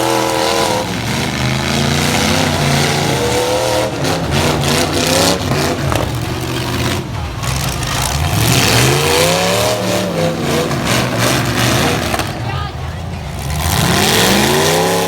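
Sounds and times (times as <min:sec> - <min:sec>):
truck engines revving hard: 0:00.0 - 0:15.0.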